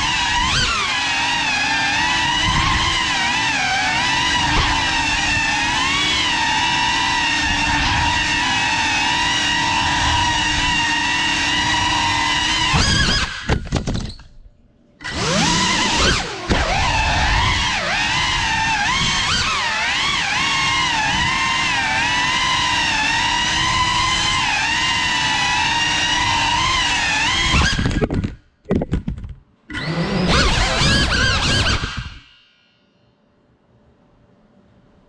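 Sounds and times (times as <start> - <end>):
drone motors and propellers whining: 0.0 - 28.9, 29.7 - 32.9.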